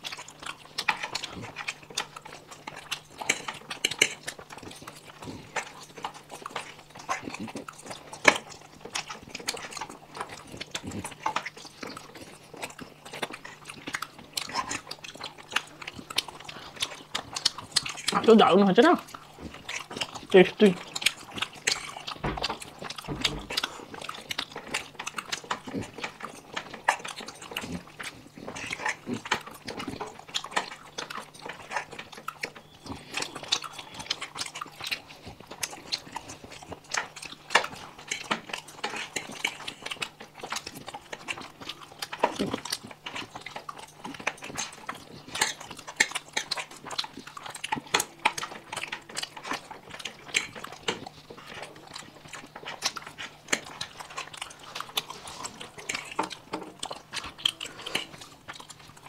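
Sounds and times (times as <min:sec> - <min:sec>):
people chewing and slurping noodles: 0:00.0 - 0:59.0.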